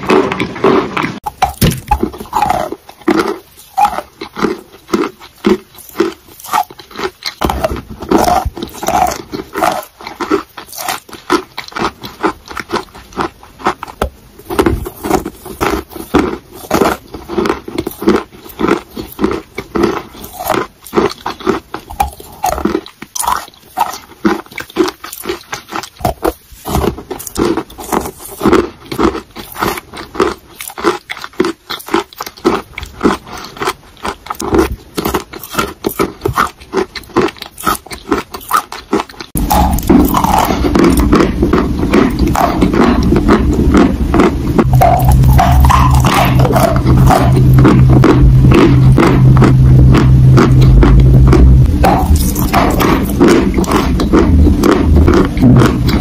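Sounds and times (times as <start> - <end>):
chewing and crunching: 0.0 - 56.0.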